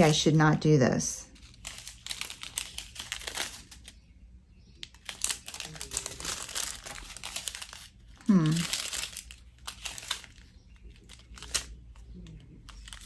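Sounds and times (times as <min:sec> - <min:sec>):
plastic bags crinkling: 0:01.3 - 0:04.1, 0:04.8 - 0:13.0.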